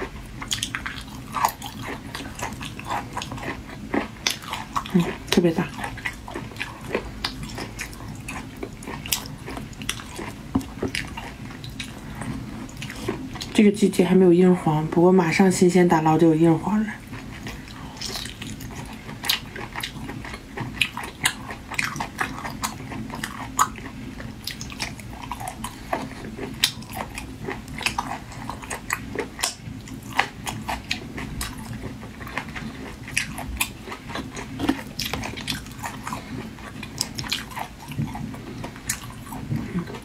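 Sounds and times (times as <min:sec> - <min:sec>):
chewing and biting: 0:00.0 - 0:13.6, 0:17.0 - 0:40.0.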